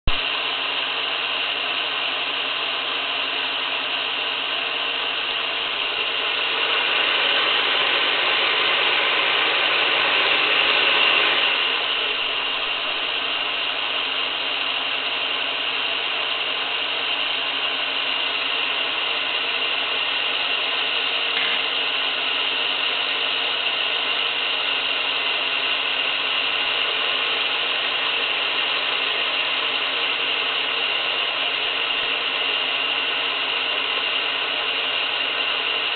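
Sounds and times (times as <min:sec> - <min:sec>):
wire recorder rewinding whir: 0:00.4 - 0:35.9.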